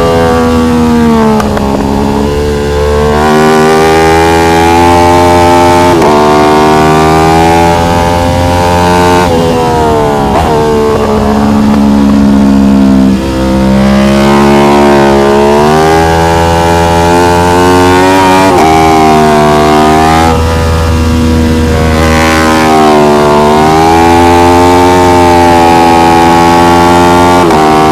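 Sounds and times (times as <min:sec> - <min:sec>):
racing motorcycle engine revving: 0:00.0 - 0:27.9.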